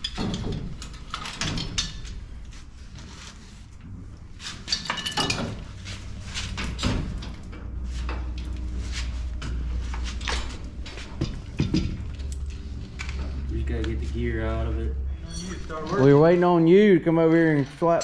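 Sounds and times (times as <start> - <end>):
metal clanking and scraping: 0.0 - 18.0.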